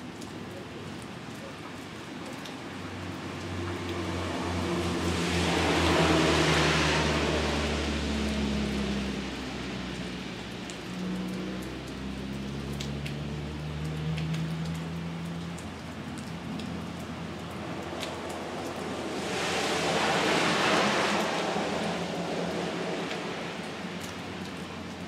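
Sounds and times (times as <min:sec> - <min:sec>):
rain falling: 0:00.0 - 0:25.0
vehicle passing: 0:03.0 - 0:09.8, 0:11.1 - 0:25.0.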